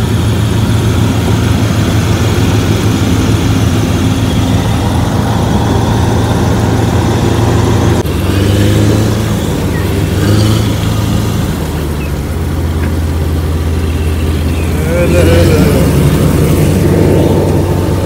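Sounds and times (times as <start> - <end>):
threshing machine running: 0.0 - 18.0.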